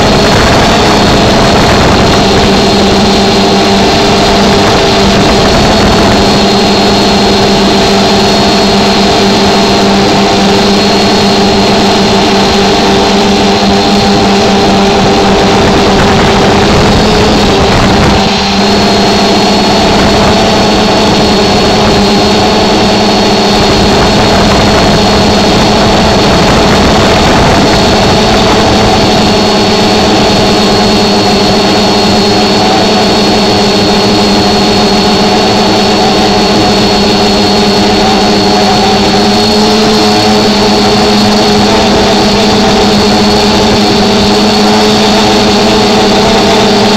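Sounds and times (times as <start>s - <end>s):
drone motors and propellers humming: 0.0s - 46.9s.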